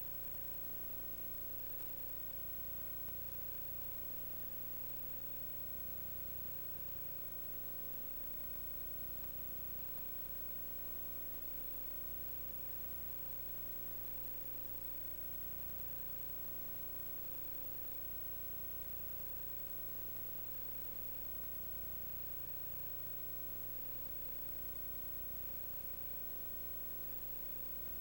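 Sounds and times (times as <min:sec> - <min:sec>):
electrical hum: 0:00.0 - 0:28.0
faint steady tone: 0:00.0 - 0:28.0.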